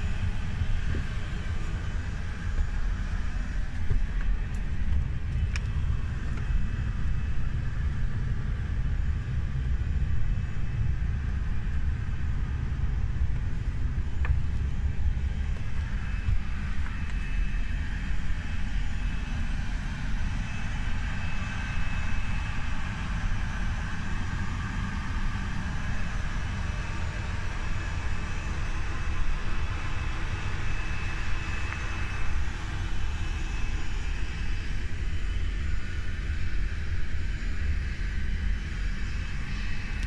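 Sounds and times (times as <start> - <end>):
low aircraft cabin noise: 0.0 - 40.0.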